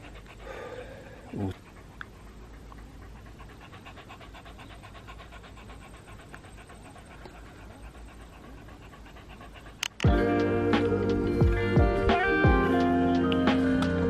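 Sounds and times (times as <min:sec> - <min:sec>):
dog panting: 0:00.0 - 0:12.8.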